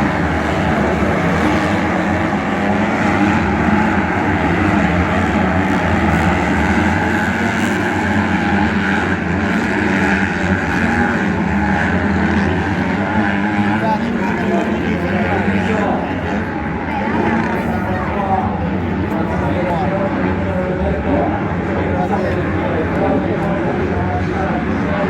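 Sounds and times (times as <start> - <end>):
motocross bike engines running: 0.0 - 25.0.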